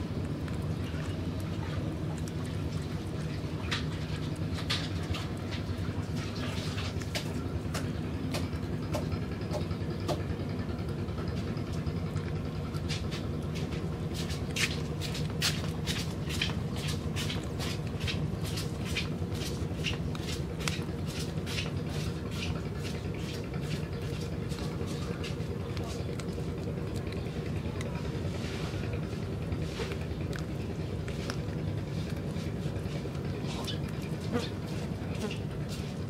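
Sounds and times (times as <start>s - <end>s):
kitten chewing clicks: 0.0s - 36.0s.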